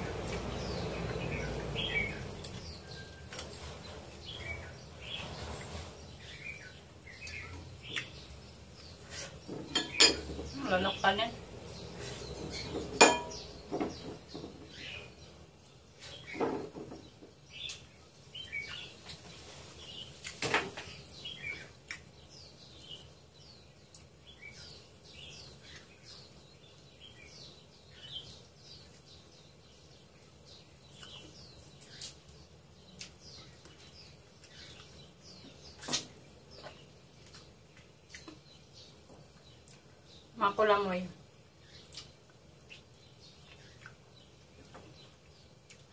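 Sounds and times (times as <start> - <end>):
small bird chirping: 0.0 - 45.9.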